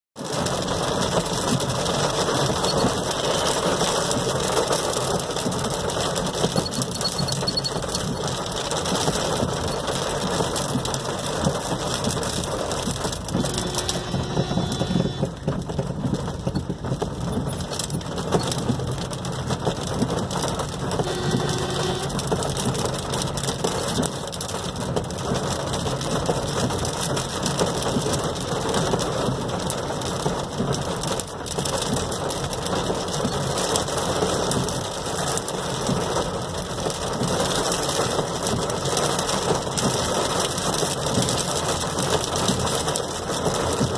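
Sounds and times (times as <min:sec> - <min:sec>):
heavy rain drumming on car roof: 0:00.2 - 0:43.9.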